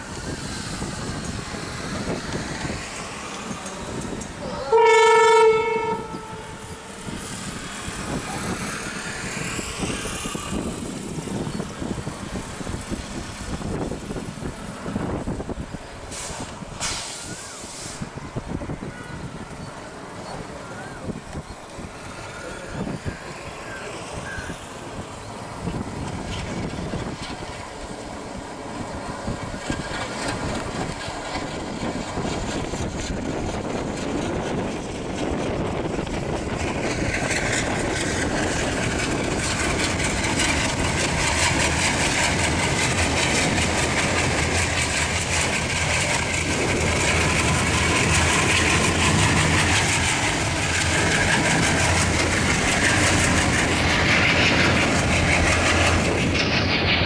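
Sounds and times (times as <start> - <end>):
diesel locomotive engine drone: 0.0 - 57.0
wheel and rail noise: 0.0 - 57.0.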